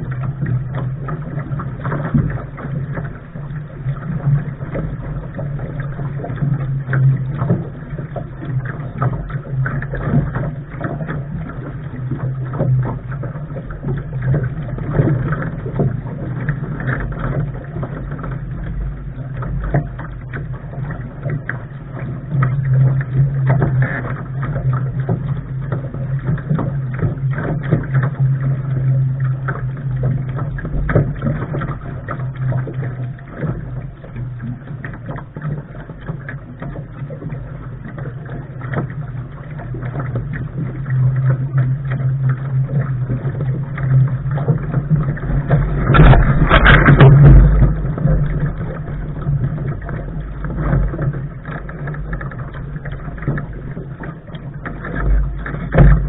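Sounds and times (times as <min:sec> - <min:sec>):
water slapping against bow: 0:00.0 - 0:56.0
wind rumble on microphone: 0:00.0 - 0:56.0.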